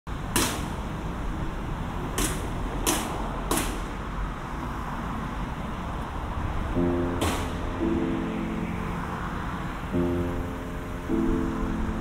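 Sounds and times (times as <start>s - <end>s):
distant traffic rumble: 0.1s - 12.0s.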